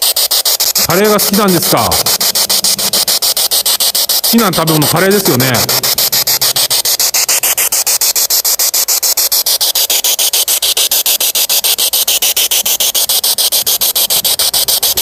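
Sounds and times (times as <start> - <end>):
radio static chopped rapidly: 0.0 - 15.0.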